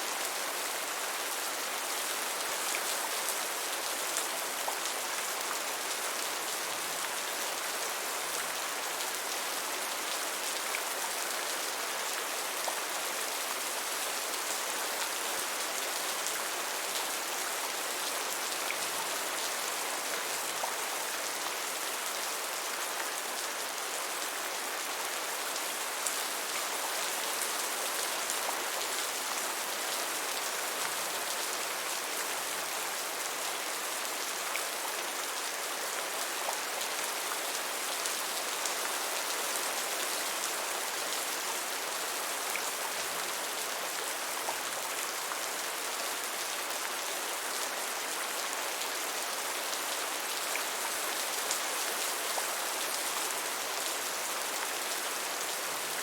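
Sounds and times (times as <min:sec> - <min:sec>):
gentle rainfall: 0:00.0 - 0:56.0.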